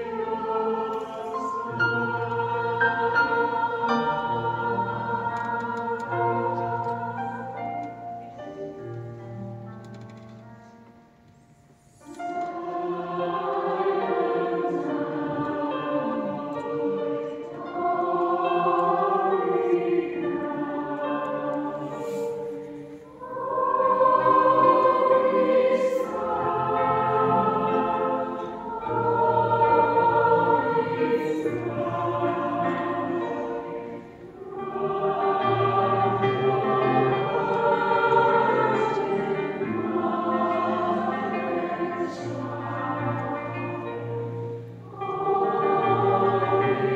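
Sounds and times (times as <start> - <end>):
large choir singing a carol: 0.0 - 10.0, 11.5 - 46.9.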